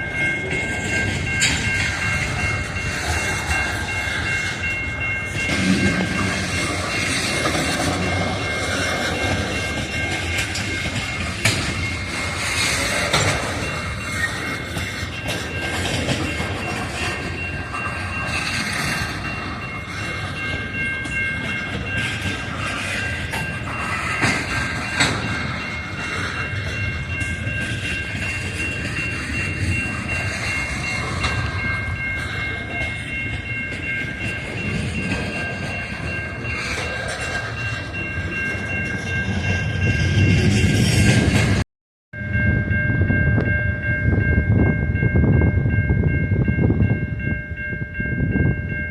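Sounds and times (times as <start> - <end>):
train rumbling and clattering: 0.0 - 41.6, 42.2 - 48.9.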